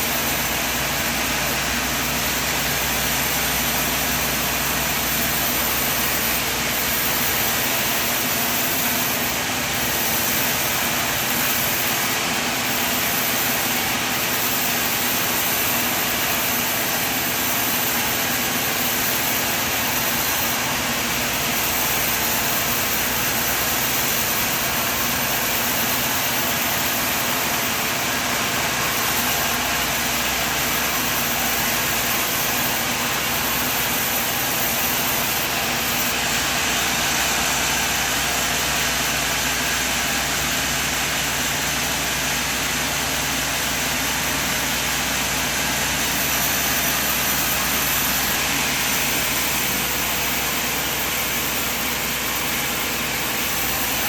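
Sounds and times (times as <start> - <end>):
sawmill machine running: 0.0 - 54.0.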